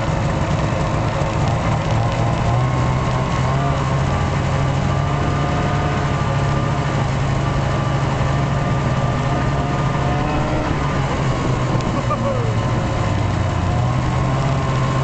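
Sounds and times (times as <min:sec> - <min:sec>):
snowmobile engine droning: 0:00.0 - 0:15.0.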